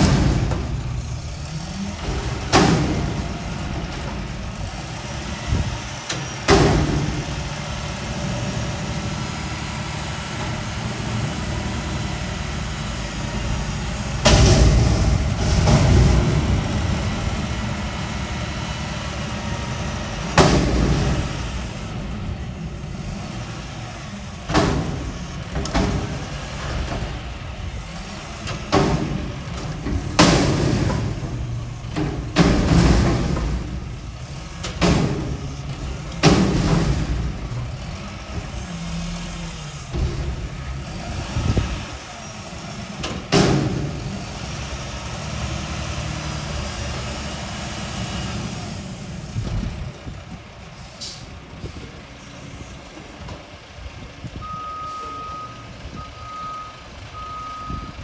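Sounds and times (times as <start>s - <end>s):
loud metal bangs: 0.0s - 49.4s
garbage truck engine running: 0.0s - 58.0s.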